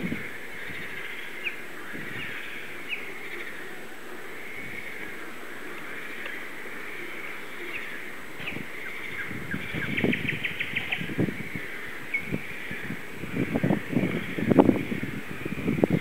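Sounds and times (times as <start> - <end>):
songbirds chirping: 0.0 - 16.0
wind on microphone: 0.0 - 16.0.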